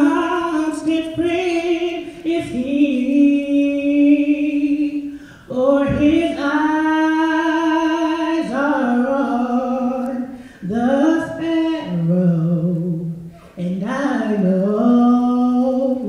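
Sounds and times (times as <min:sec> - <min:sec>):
man singing a cappella: 0:00.0 - 0:16.0.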